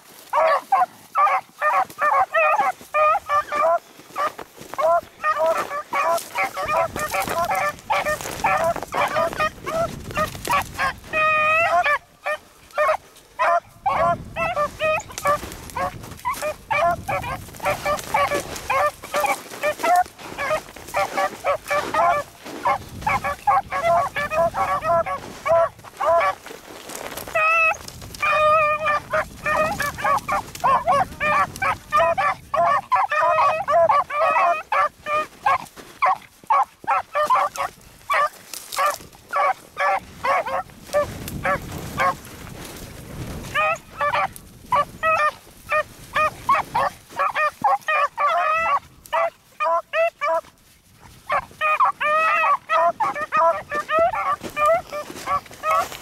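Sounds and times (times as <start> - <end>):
hounds baying: 0.0 - 56.0.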